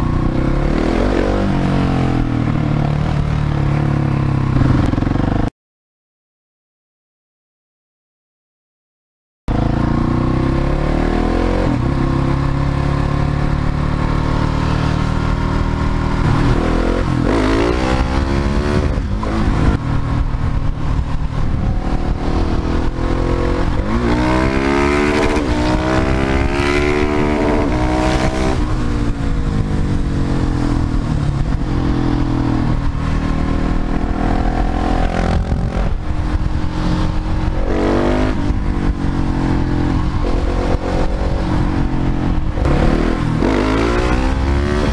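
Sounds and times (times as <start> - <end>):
motorcycle engine accelerating: 0.0 - 5.5, 9.5 - 44.9.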